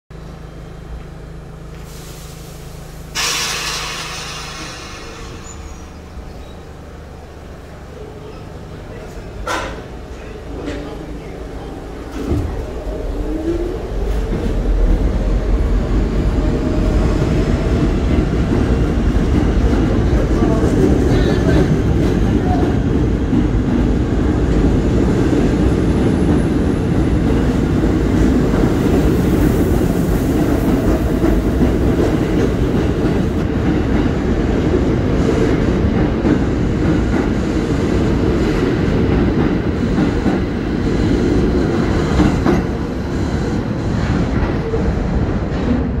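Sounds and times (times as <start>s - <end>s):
train wheels rumbling on rails: 0.2s - 46.0s.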